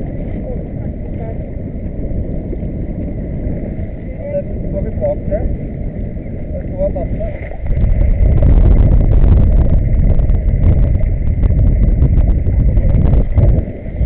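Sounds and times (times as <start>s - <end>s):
loud low rumble: 0.0s - 14.0s.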